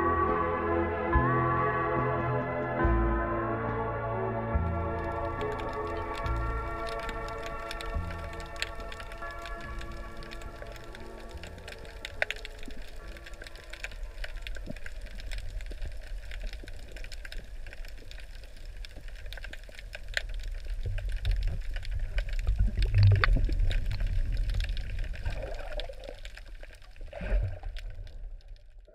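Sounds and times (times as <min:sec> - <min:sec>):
underwater rumble of moving water: 0:04.6 - 0:28.9
faint underwater clicks and crackles: 0:04.8 - 0:28.9.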